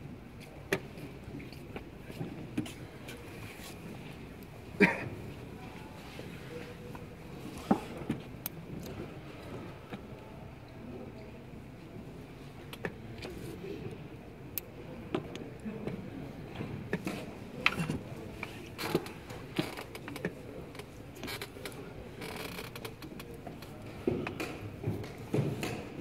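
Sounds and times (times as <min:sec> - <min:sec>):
low background murmur: 0:00.0 - 0:26.0.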